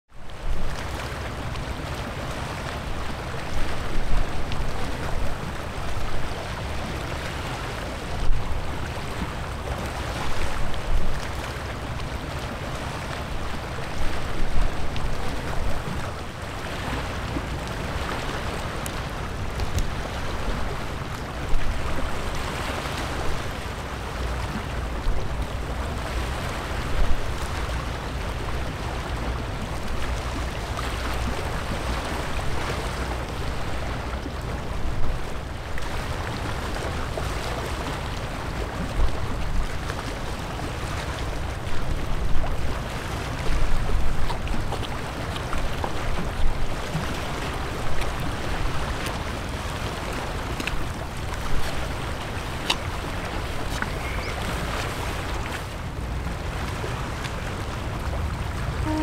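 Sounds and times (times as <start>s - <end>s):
low wind rumble on microphone: 0.1s - 59.0s
small waves lapping at shore: 0.1s - 59.0s.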